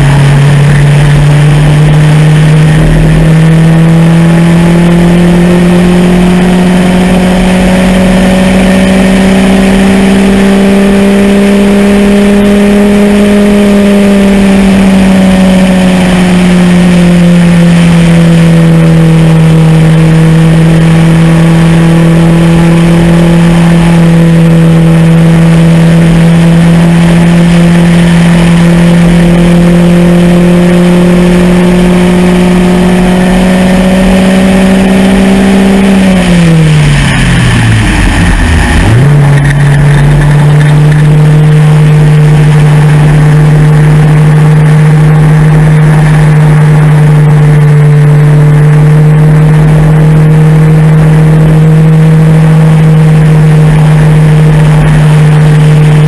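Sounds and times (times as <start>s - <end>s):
engine running hard: 0.0s - 56.0s.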